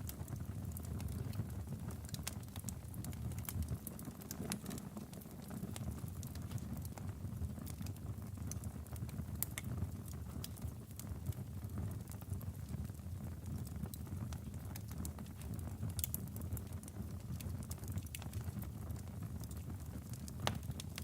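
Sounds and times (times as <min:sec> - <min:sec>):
log fire crackling: 0:00.0 - 0:21.0.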